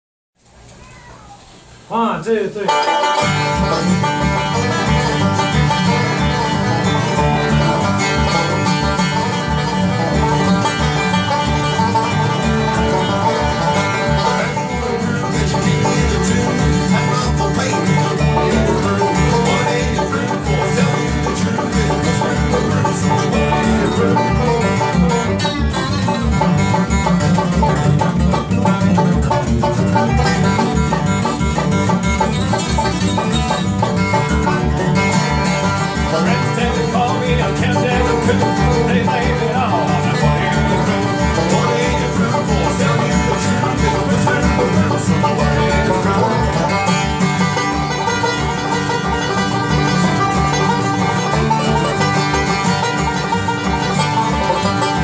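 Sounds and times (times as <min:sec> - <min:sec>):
acoustic guitar: 0:00.4 - 0:55.0
banjo picking: 0:02.5 - 0:55.0
upright bass plucking: 0:02.7 - 0:55.0.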